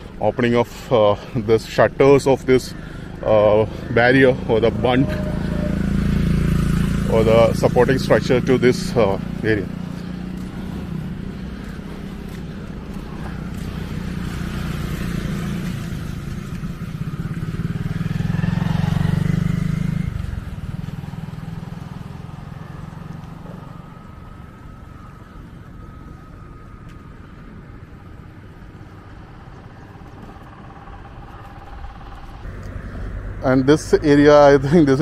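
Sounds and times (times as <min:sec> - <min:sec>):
motorboat engine passing: 0:00.0 - 0:35.0.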